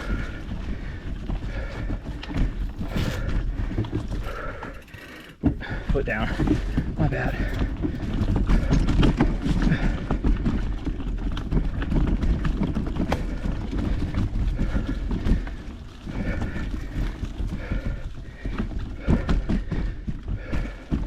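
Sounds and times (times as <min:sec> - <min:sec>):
bike knocks and rattles: 0:00.0 - 0:21.0
person breathing hard: 0:00.0 - 0:21.0.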